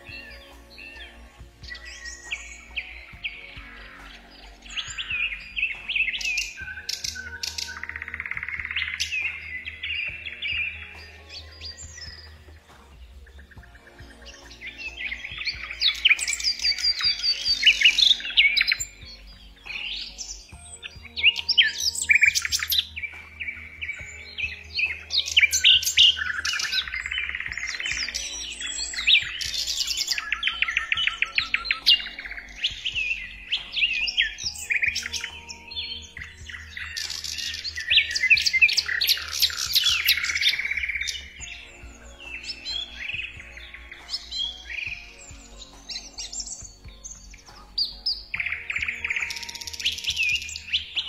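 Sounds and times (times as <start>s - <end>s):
small birds chirping and trilling: 0.0s - 51.0s.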